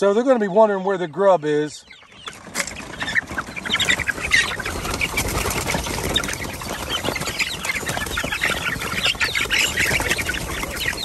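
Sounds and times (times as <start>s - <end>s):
chicks peeping and clucking: 0.0s - 11.0s
wings flapping: 2.2s - 11.0s.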